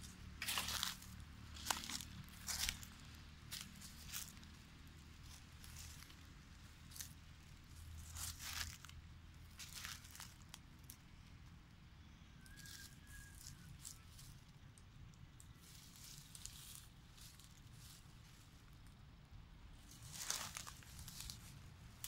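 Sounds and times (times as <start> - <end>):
footsteps crunching dry leaves: 0.0 - 10.6, 12.5 - 14.4, 15.5 - 18.6, 19.7 - 22.0.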